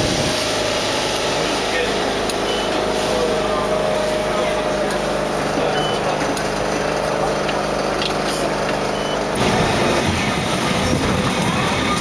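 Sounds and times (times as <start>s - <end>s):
electric tram hum: 0.0s - 12.0s
wheels rumbling on rails: 0.0s - 12.0s.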